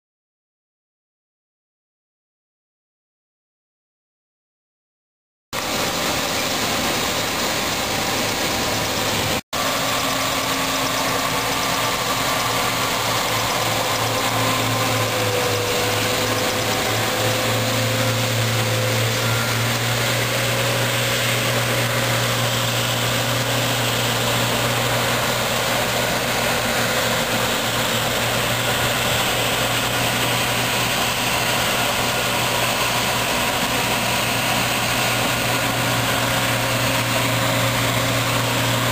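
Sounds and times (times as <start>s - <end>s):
combine harvester engine: 5.6s - 38.9s
threshing machinery running: 5.6s - 38.9s.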